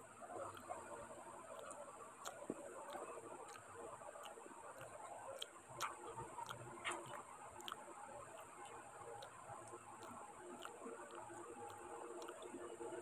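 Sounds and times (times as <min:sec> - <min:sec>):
chewing and fingers on steel plate: 0:00.4 - 0:13.0.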